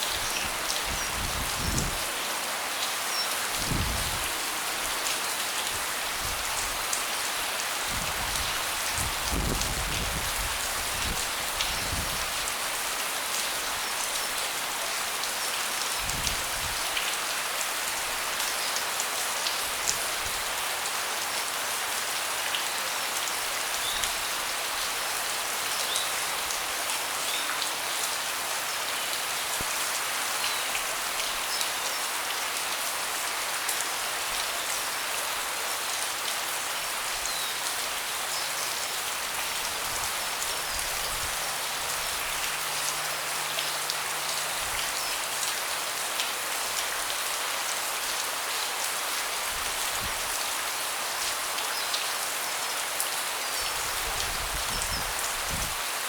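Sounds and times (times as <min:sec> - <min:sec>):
rain falling on a deck: 0:00.0 - 0:56.0.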